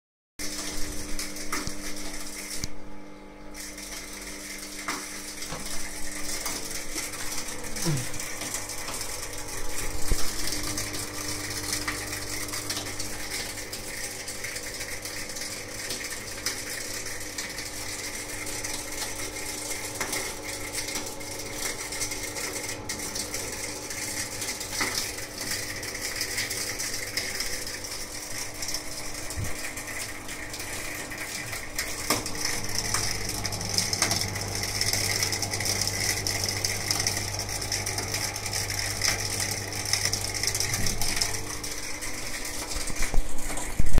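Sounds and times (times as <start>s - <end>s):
washing machine pump humming: 0.4s - 44.0s
pump rattling: 3.6s - 44.0s.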